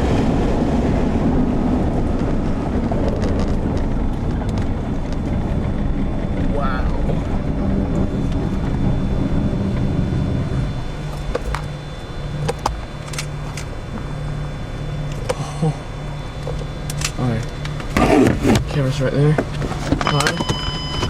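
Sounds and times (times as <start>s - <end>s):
car engine running: 0.0s - 21.0s
wind buffeting microphone: 0.0s - 21.0s.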